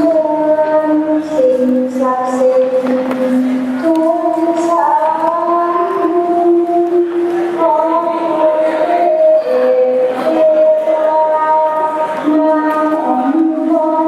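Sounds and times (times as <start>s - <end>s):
slow sung melody: 0.0s - 14.0s.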